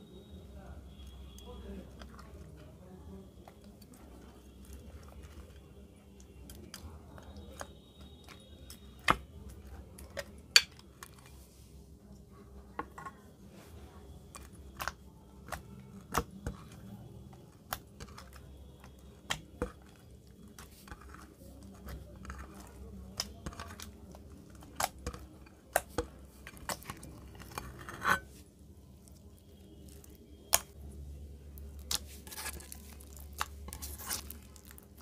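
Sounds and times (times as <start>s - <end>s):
slime squishing with sticky clicks: 0.9s - 11.4s, 14.1s - 28.1s, 28.8s - 35.0s.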